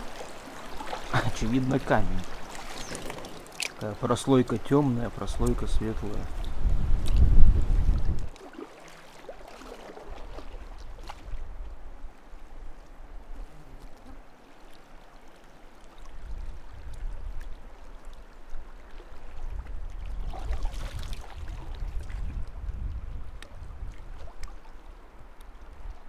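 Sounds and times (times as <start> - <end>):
river water trickling and gurgling: 0.0 - 26.0.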